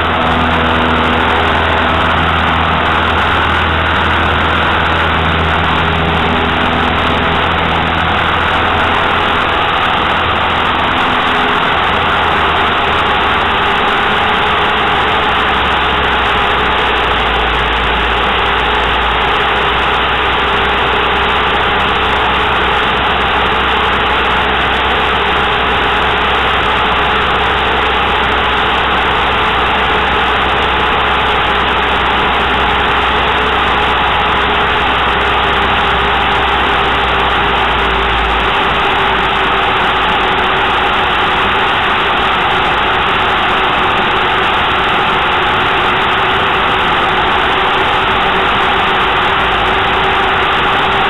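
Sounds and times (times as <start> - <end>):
faint steady hum: 0.0 - 51.0
light aircraft drone: 0.0 - 51.0
low rumble: 0.0 - 51.0.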